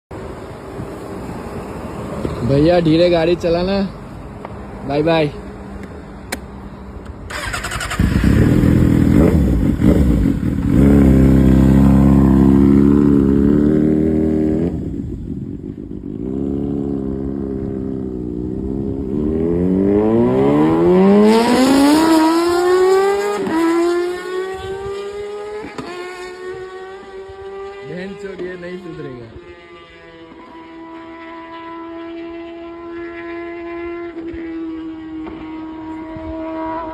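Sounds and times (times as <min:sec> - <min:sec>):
motorcycle engine revving: 0:07.3 - 0:36.9.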